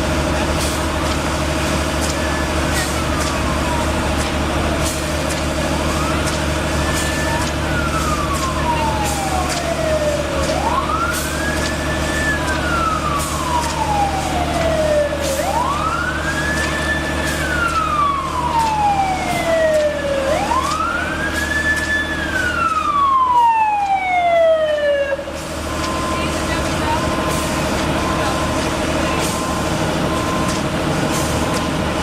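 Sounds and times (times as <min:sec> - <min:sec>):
emergency siren wailing: 0:00.0 - 0:32.0.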